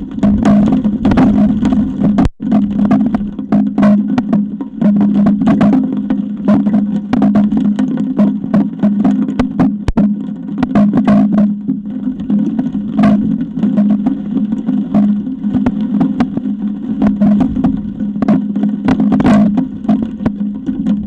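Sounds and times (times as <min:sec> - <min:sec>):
knocks and rattles: 0:00.0 - 0:21.0.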